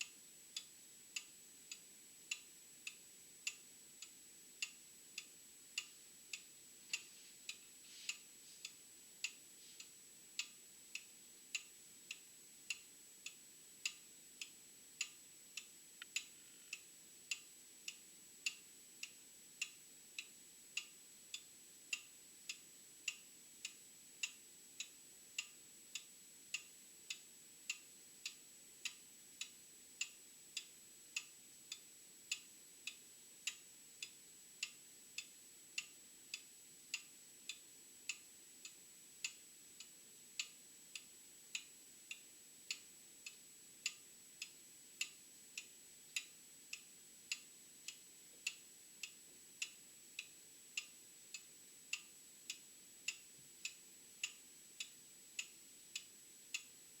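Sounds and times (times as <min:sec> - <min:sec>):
mechanical clock ticking: 0:10.4 - 0:56.7.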